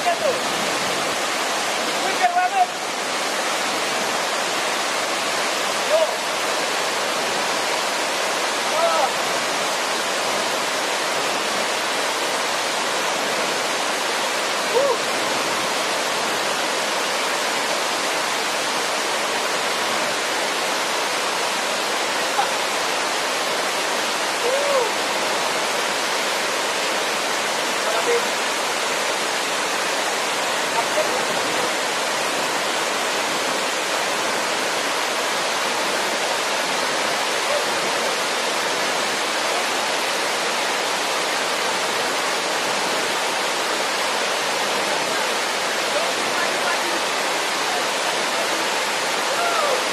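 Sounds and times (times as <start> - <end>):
waterfall rushing over rock: 0.0 - 49.9.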